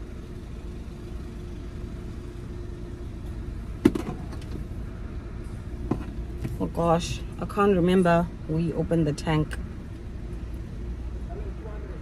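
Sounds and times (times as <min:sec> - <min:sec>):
low hum inside a car: 0:00.0 - 0:12.0.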